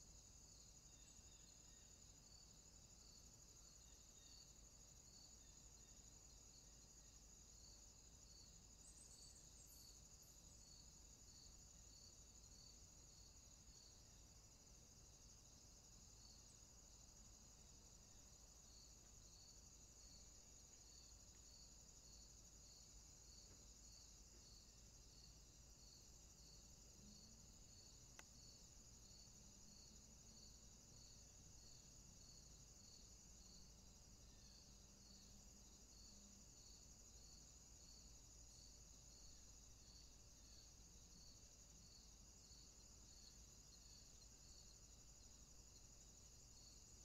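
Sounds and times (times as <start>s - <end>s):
insect chirping: 0.0s - 47.0s.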